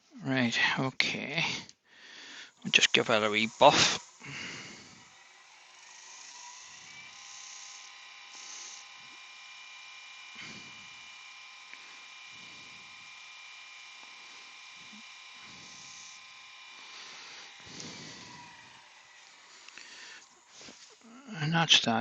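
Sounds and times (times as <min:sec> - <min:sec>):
wood lathe motor whining: 0:02.0 - 0:22.0.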